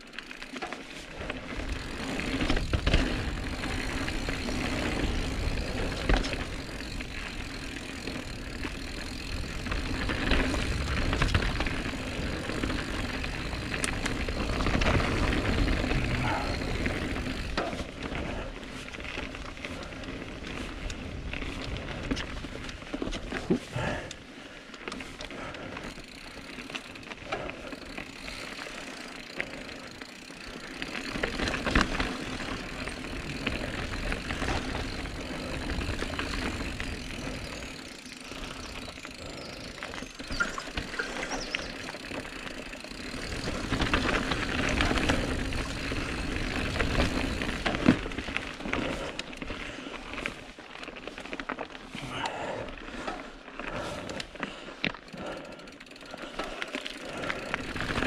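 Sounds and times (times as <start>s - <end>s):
bike rattling over roots: 0.0s - 58.0s
bike tyres on dirt trail: 0.0s - 58.0s.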